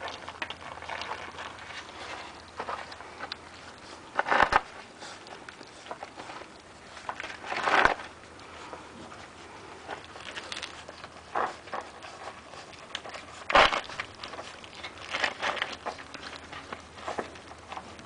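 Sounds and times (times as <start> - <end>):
puppies lapping and chewing: 0.0 - 18.0.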